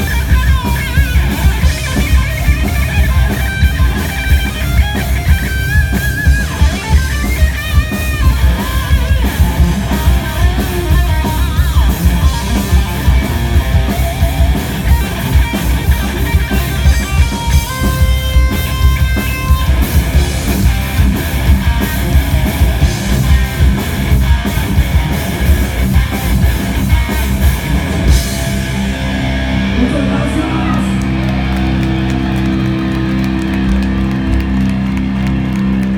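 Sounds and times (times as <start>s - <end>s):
heavy metal band playing: 0.0s - 35.9s.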